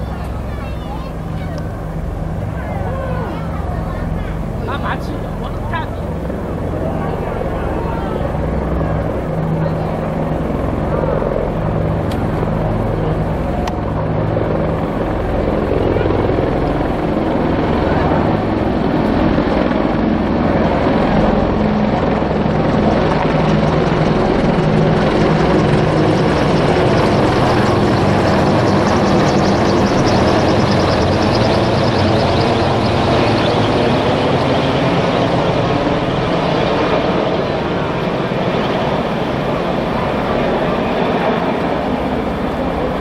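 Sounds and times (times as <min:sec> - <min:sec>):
helicopters flying overhead: 0:00.0 - 0:43.0.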